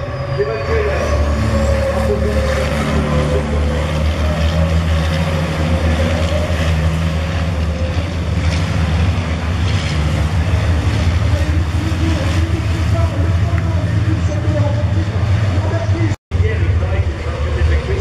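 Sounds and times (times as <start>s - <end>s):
race trucks engine drone: 0.0s - 18.0s.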